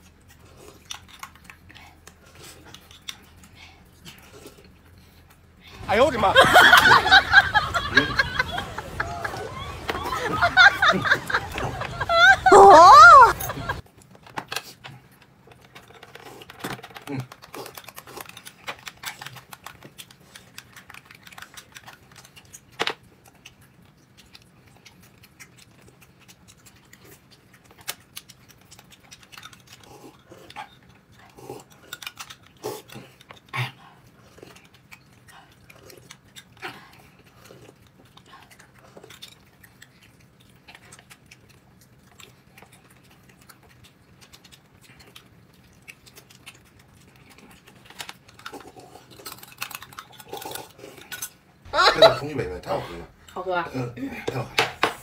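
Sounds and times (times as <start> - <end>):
chewing and mouth noises: 0.0 - 55.0.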